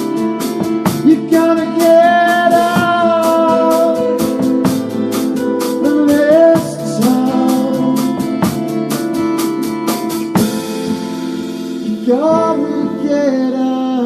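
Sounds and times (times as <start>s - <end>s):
drum kit beat: 0.0s - 13.4s
held guitar chords: 0.0s - 14.0s.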